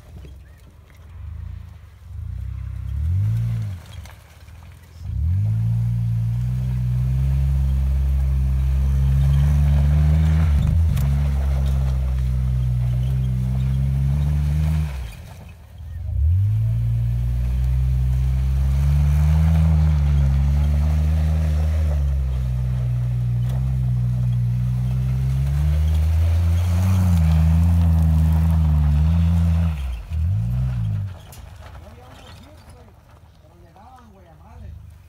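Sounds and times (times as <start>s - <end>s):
car engine revving: 1.2s - 32.1s.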